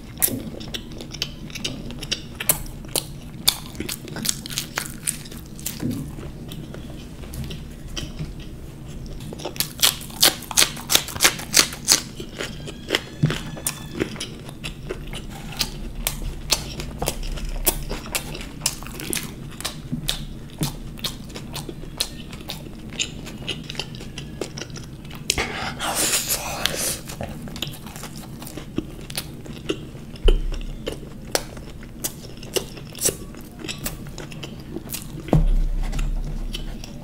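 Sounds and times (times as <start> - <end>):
crunching crisp pastry: 0.0 - 37.0.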